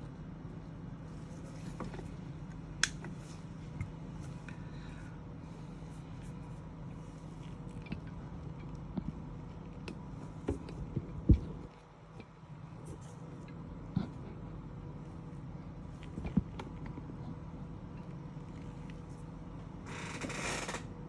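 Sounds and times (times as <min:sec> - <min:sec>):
hot air station hum and hiss: 0:00.0 - 0:21.0.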